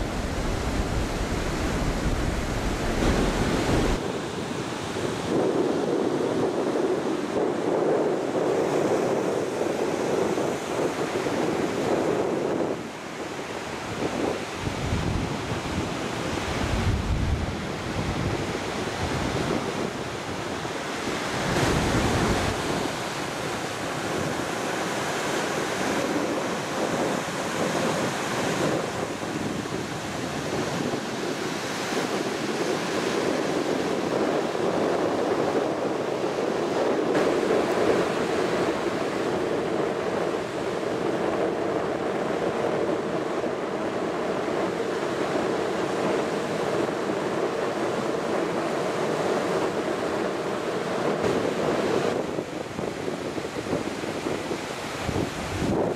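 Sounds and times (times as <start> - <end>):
surf breaking on beach: 0.0 - 55.9
wind buffeting microphone: 0.0 - 55.9.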